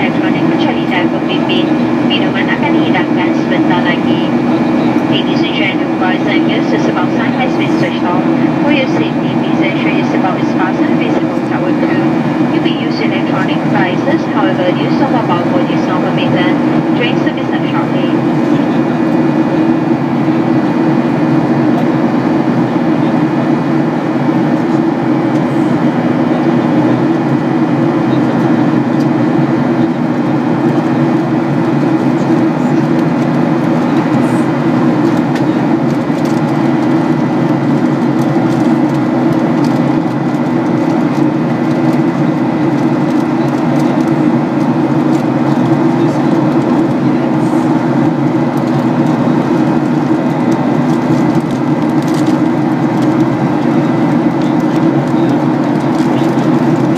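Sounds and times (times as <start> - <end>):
jet engine drone: 0.0 - 56.9.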